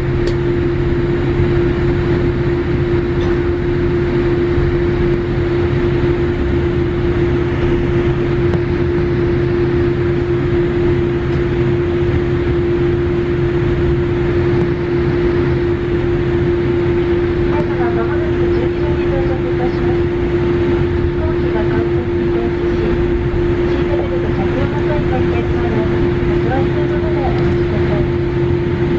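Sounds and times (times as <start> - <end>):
airliner cabin engine drone: 0.0 - 28.9.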